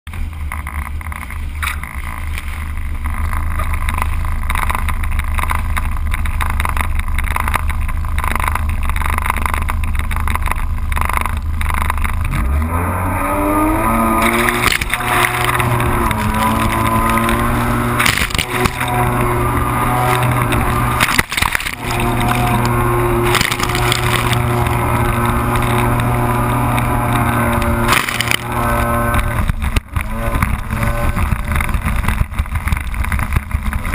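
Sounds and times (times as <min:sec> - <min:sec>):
personal watercraft engine: 0:00.1 - 0:33.9.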